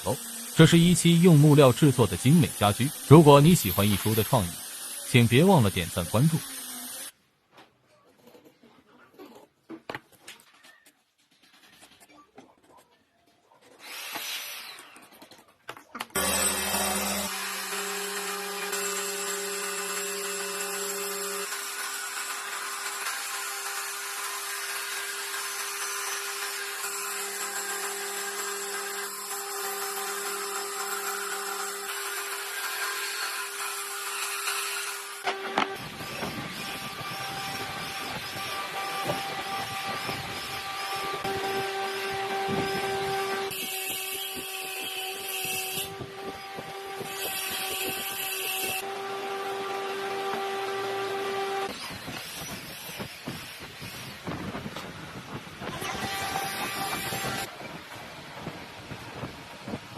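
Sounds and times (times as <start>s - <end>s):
power tool running on wood: 0.0s - 7.2s, 16.2s - 57.5s.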